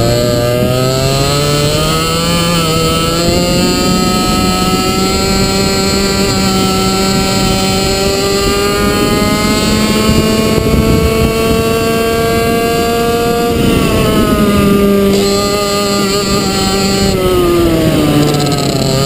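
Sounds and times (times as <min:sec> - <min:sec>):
kart engine pulling hard: 0:00.0 - 0:19.0.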